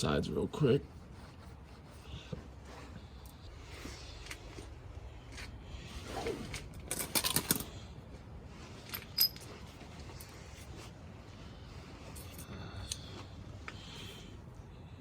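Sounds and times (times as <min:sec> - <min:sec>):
hands rubbing and scraping parts: 0:00.0 - 0:14.2.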